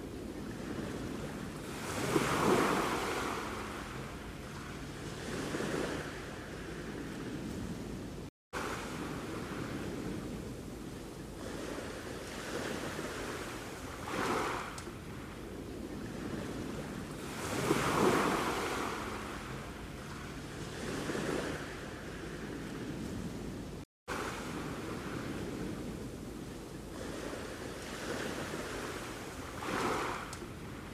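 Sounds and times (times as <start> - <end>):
sea waves washing on shore: 0.0 - 30.9.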